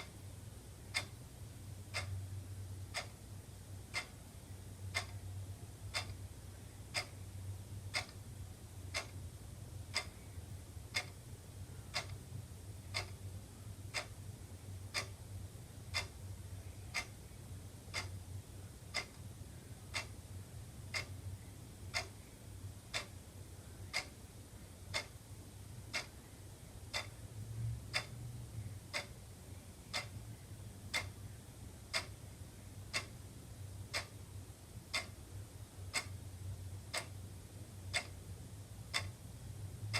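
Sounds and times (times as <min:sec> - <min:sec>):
faint low hum: 0:00.0 - 0:39.9
wall clock ticking: 0:00.0 - 0:39.9.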